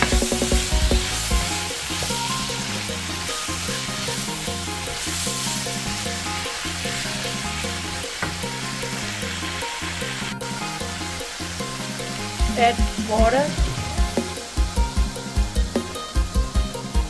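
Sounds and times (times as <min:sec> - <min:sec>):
food sizzling in a wok: 0:00.0 - 0:17.0
music with walking bass line: 0:00.0 - 0:17.0.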